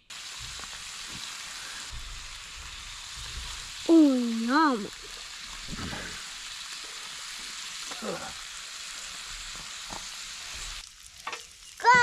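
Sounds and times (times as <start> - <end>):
hot dogs sizzling on grill: 0.0 - 12.0.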